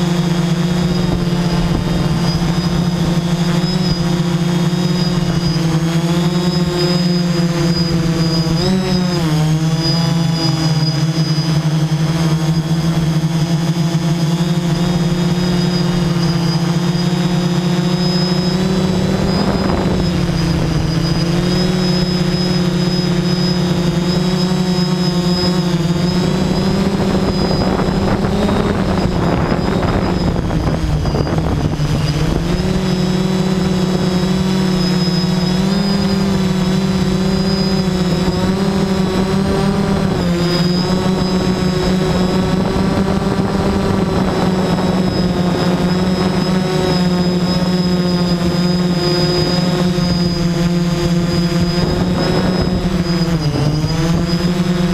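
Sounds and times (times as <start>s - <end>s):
drone motors and propellers humming: 0.0s - 54.9s
wind on microphone: 0.0s - 54.9s.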